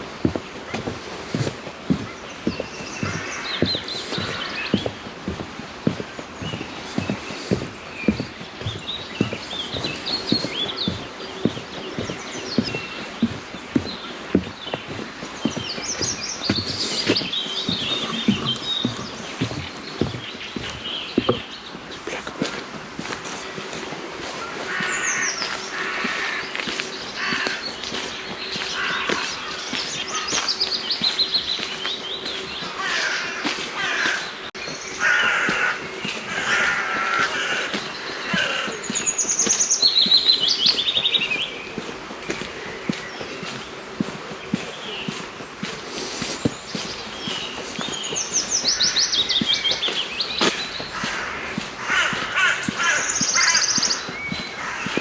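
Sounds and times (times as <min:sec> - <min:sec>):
songbirds singing: 0:00.0 - 0:55.0
birds cawing: 0:00.3 - 0:21.6, 0:23.3 - 0:55.0.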